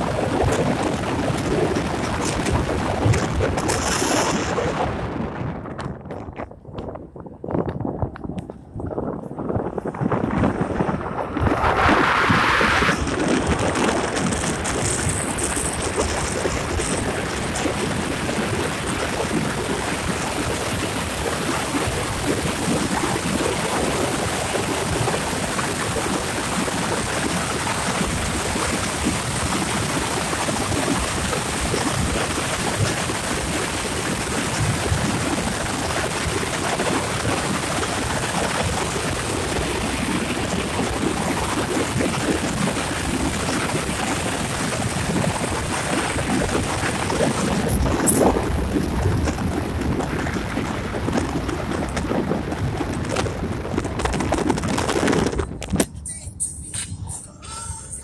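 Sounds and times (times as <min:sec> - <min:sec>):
wind and road noise from car: 0:00.0 - 0:58.0.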